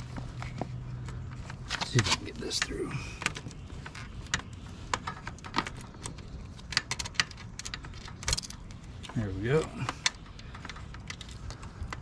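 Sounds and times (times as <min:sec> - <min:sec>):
cable fitting rattling against metal: 0:01.4 - 0:12.0.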